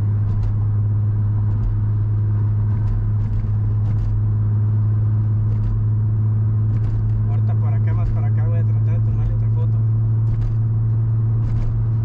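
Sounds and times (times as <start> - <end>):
vehicle driving drone from cabin: 0.0 - 12.0.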